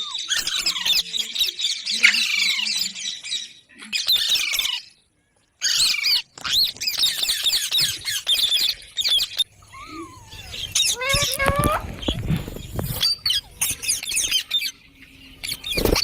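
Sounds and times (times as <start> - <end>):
parrots squawking and chattering: 0.0 - 16.0.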